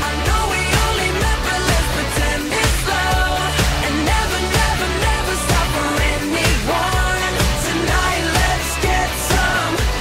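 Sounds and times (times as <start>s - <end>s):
person singing: 0.0s - 10.0s
upbeat pop song: 0.0s - 10.0s.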